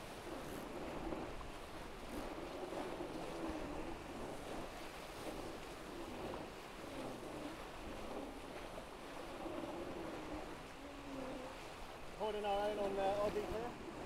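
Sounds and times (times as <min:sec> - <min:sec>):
water rushing along hulls: 0:00.0 - 0:14.0
wind over microphone: 0:00.0 - 0:14.0.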